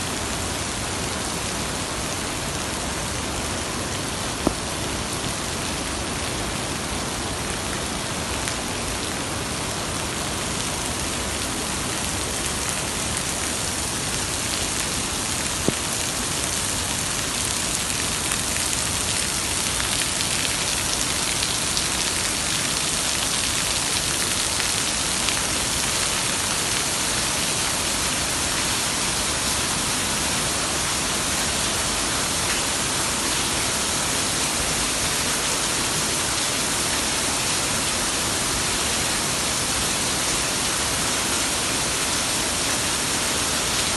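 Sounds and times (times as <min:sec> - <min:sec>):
falling water rushing: 0:00.0 - 0:43.9.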